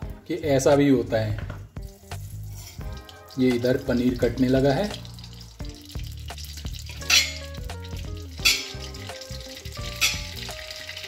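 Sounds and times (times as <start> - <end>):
instrumental background music: 0.0 - 11.0
oil sizzling in a pan: 1.6 - 11.0.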